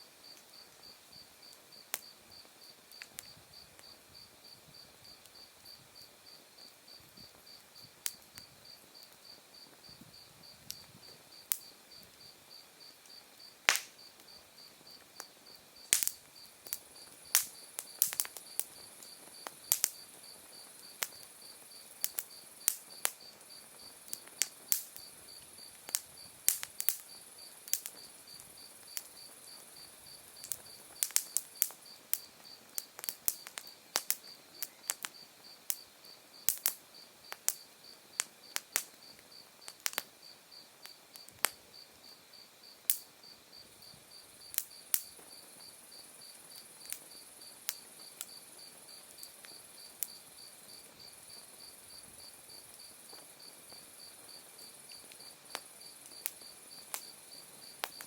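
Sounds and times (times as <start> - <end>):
continuous high insect trill: 0.0 - 58.0
insects chirping: 0.2 - 58.0
wood fire crackling: 0.3 - 58.0.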